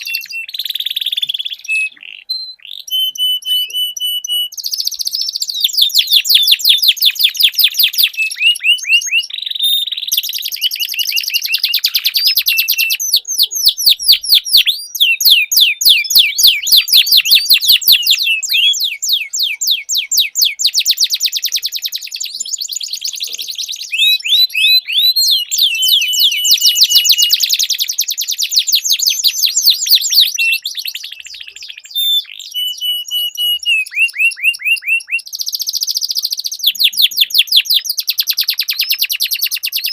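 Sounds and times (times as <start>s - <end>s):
short held whistle: 0.0s - 23.0s, 23.6s - 39.9s
canaries trilling: 0.0s - 39.9s.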